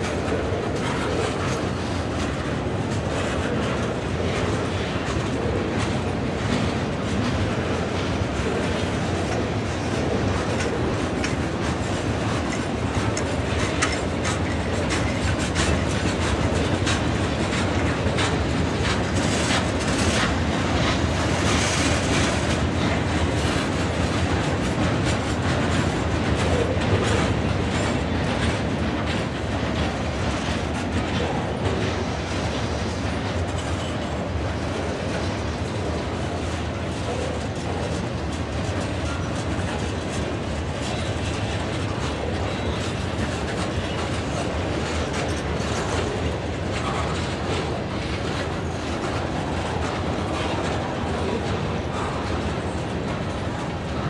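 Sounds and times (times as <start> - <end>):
freight train wheels clicking on rails: 0.0 - 54.0.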